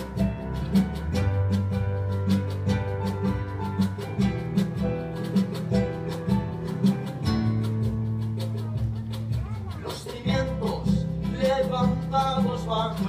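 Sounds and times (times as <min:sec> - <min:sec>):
electric bass notes: 0:00.0 - 0:13.0
percussive beat: 0:00.0 - 0:13.0
strummed acoustic guitar: 0:00.0 - 0:13.0.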